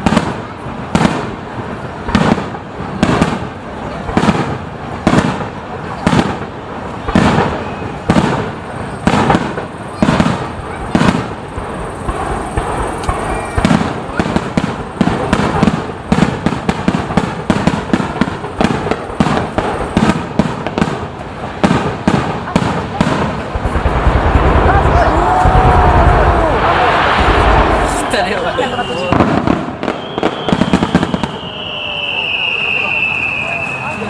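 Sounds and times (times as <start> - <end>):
firework shells bursting: 0.0 - 33.9.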